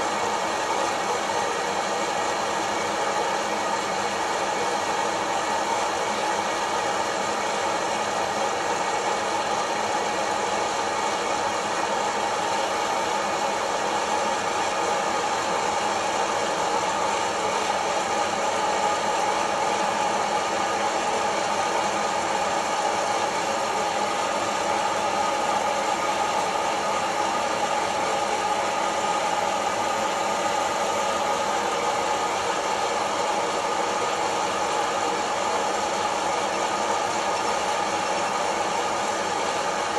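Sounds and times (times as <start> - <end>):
hot-air fan rushing: 0.0 - 39.9.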